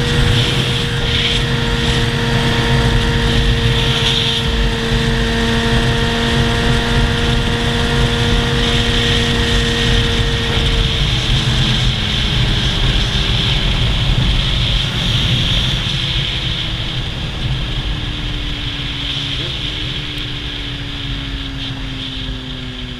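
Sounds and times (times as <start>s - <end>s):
motorcycle engine running: 0.0s - 22.9s
wind rumbling on microphone: 0.0s - 22.9s.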